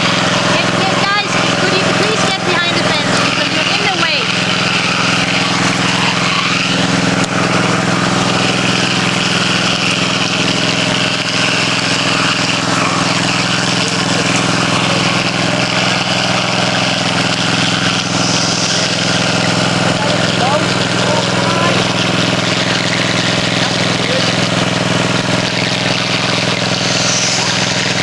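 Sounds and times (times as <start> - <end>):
engine humming steadily: 0.0 - 28.0.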